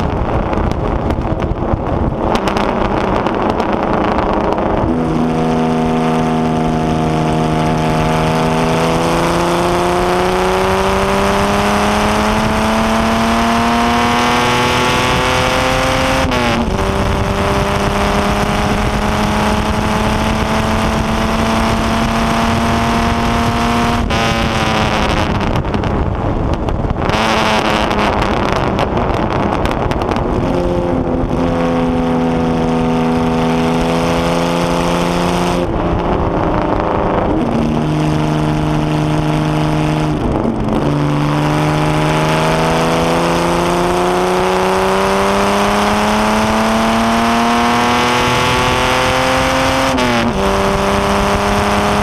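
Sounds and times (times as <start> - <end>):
racing engine revving: 0.0 - 25.8, 26.4 - 52.0.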